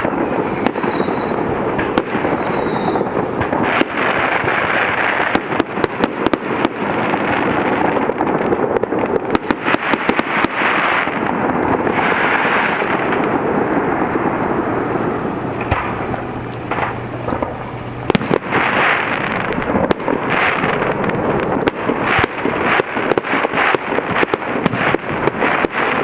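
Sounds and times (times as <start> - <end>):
continuous rumble: 0.0 - 26.0
fireworks bursting with bangs: 0.0 - 26.0.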